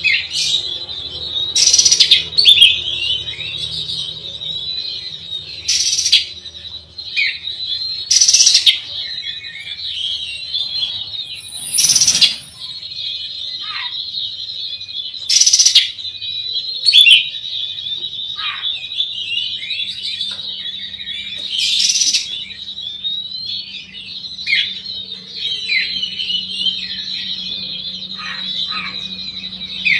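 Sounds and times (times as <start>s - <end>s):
bird singing chirps and trills: 0.0s - 29.9s.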